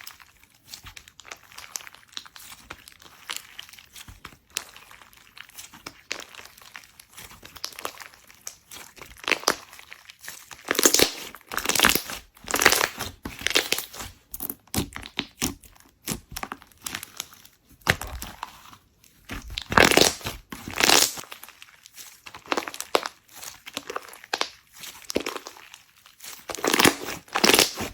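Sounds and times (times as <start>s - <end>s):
slime squeezed crackling: 0.0s - 27.9s.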